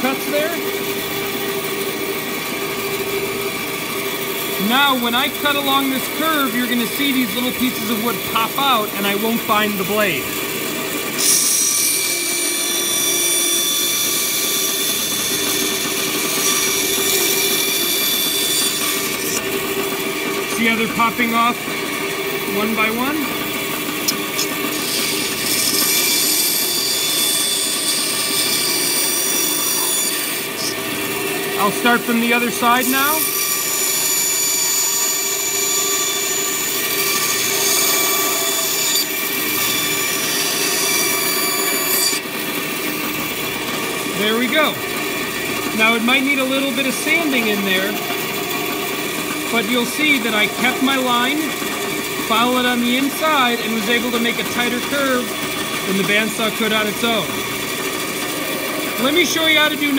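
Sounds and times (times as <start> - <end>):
bandsaw cutting plywood: 0.0 - 59.9.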